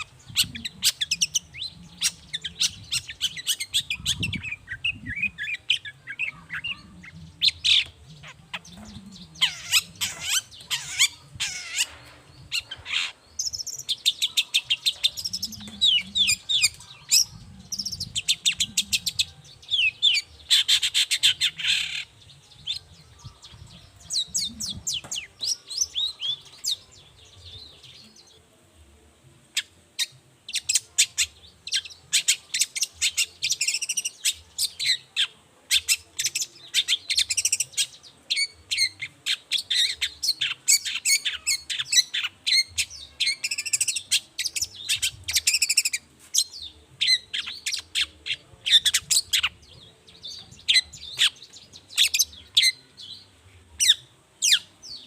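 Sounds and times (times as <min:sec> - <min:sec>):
shrike singing chirps and rasps: 0:00.0 - 0:28.4, 0:29.5 - 0:55.0.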